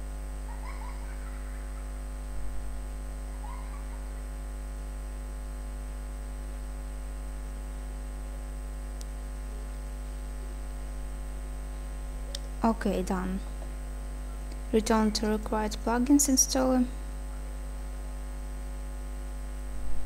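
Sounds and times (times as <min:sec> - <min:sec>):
electrical mains hum: 0:00.0 - 0:20.0
faint high-pitched whine: 0:00.0 - 0:20.0.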